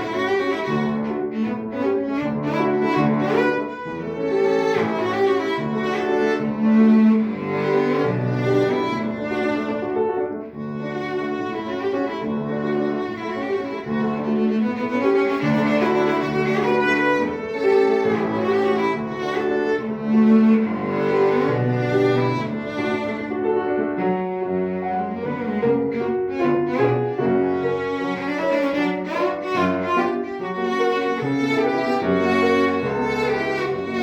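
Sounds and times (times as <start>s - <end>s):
cello melody: 0.0s - 34.0s
piano accompaniment: 0.0s - 34.0s.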